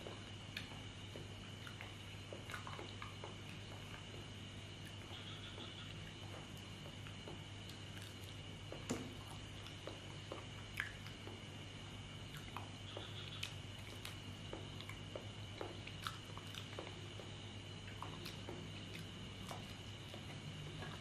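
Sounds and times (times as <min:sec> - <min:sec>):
faint high whine: 0:00.0 - 0:21.0
person chewing soft banana: 0:00.0 - 0:21.0
steady low hum: 0:00.0 - 0:21.0.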